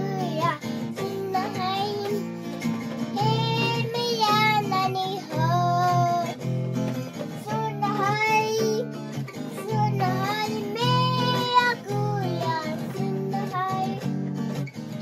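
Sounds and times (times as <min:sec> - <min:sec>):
child singing: 0:00.0 - 0:06.5, 0:07.1 - 0:14.3
guitar-like accompaniment: 0:00.0 - 0:15.0.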